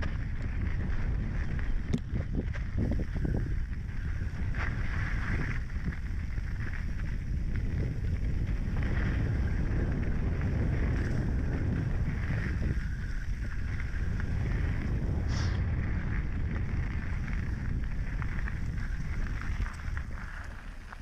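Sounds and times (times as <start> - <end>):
bike tyres rumbling on dirt: 0.0 - 21.0
wind buffeting microphone: 0.0 - 21.0.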